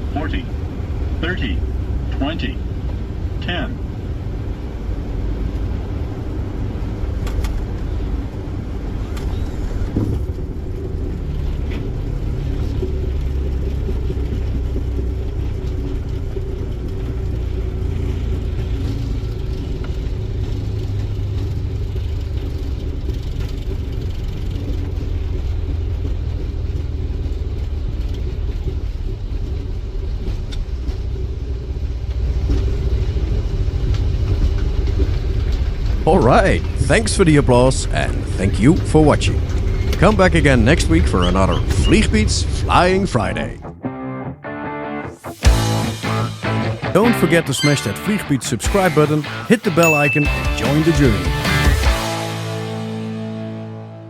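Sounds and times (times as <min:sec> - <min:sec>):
aircraft rumble of engines and wheels: 0:00.0 - 0:43.9.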